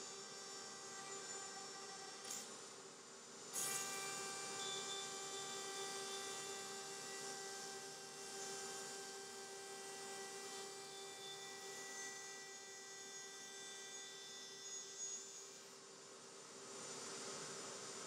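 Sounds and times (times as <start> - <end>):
router high whine: 0.0 - 2.5, 3.5 - 15.7.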